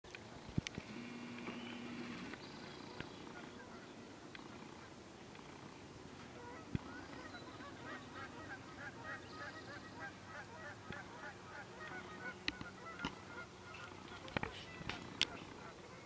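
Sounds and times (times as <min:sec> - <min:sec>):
bird calling rapidly: 0:01.3 - 0:05.6, 0:06.3 - 0:16.0.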